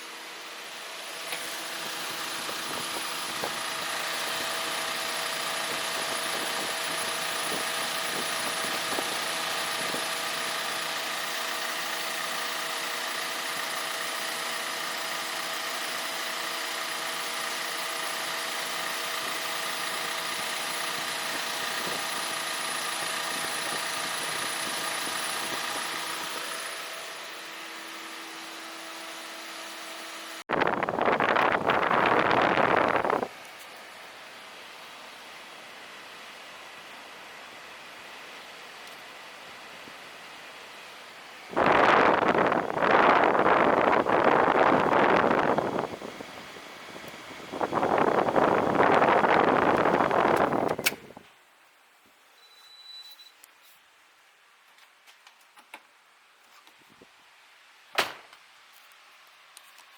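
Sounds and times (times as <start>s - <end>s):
car electric fan whooshing: 0.0s - 51.2s.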